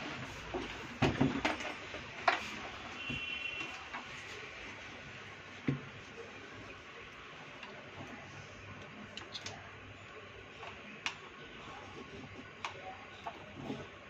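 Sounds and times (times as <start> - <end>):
room noise: 0.0 - 14.0.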